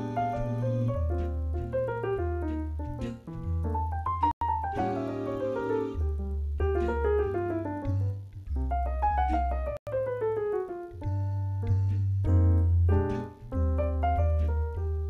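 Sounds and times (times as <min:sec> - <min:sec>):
bossa nova piano keyboard: 0:00.0 - 0:15.0.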